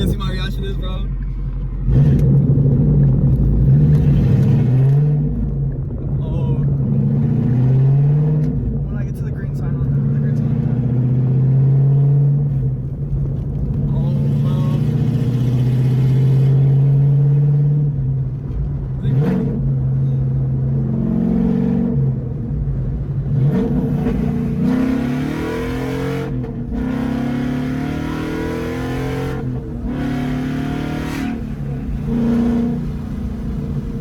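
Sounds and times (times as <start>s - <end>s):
loud car exhaust accelerating: 0.0s - 34.0s.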